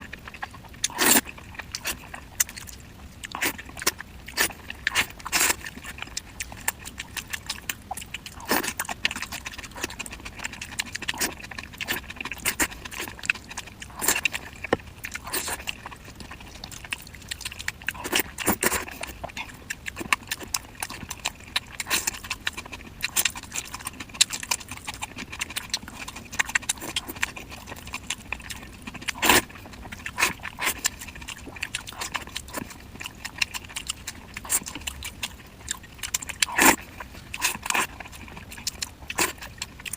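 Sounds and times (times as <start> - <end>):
mouth clicks and chewing: 0.0 - 39.9.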